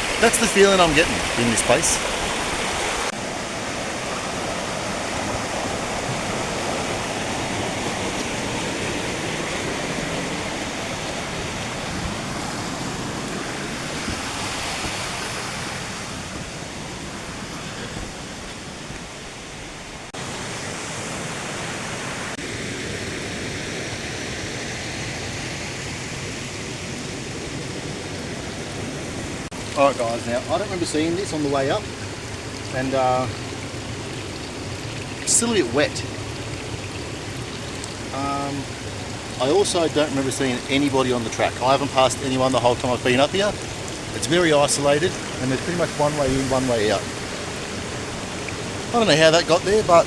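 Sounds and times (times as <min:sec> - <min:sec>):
rushing creek water: 0:00.0 - 0:50.0.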